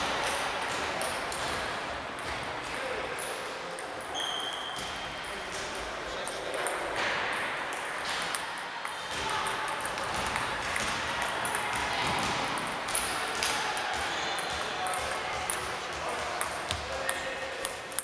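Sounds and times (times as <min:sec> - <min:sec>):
background voices in a hall: 0:00.0 - 0:18.0
table tennis balls ticking: 0:00.0 - 0:18.0.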